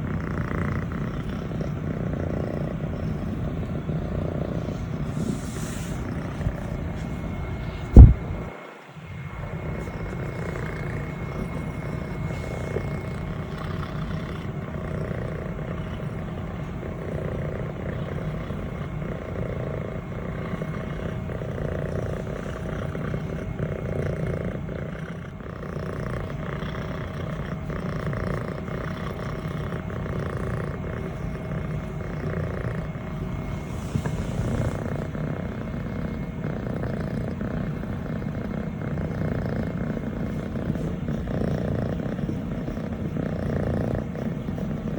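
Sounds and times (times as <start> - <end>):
kitten purring: 0.0 - 44.9.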